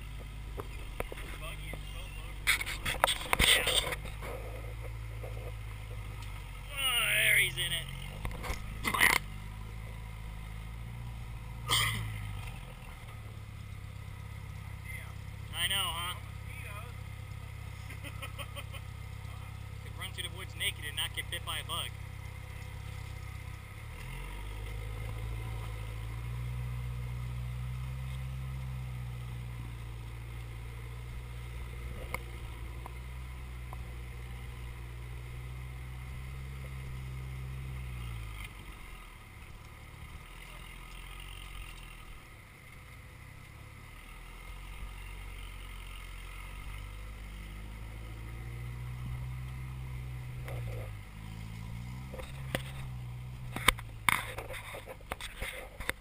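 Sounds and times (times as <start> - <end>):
buggy engine pulling under load: 0.0 - 56.0.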